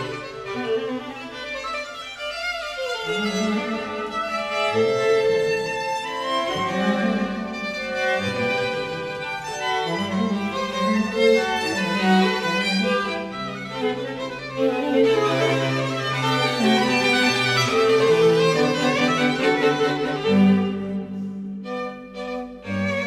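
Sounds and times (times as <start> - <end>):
bowed strings playing: 0.0 - 23.0.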